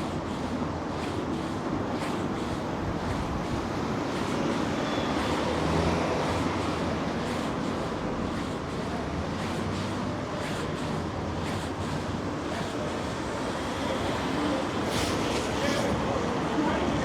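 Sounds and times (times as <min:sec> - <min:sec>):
traffic running: 0:00.0 - 0:17.0.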